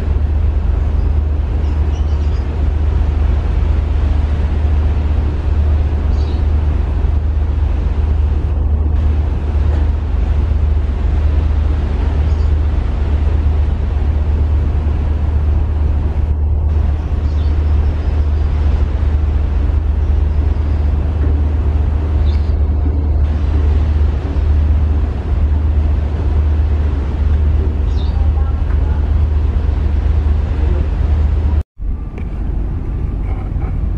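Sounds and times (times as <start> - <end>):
ferry engines droning: 0.0 - 33.9
wind and water noise: 0.0 - 33.9.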